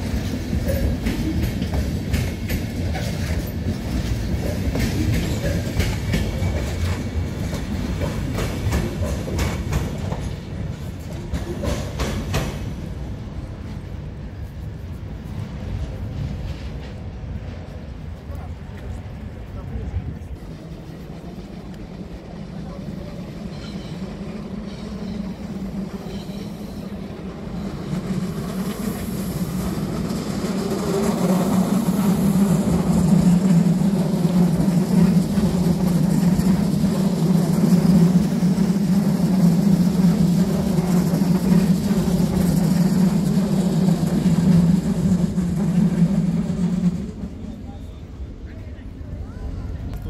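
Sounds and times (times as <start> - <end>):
train rumbling past: 0.0 - 50.0.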